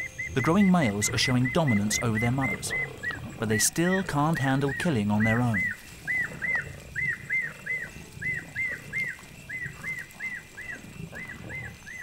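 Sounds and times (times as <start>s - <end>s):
night animal chirping: 0.0s - 12.0s
lions chewing and shuffling: 0.2s - 12.0s.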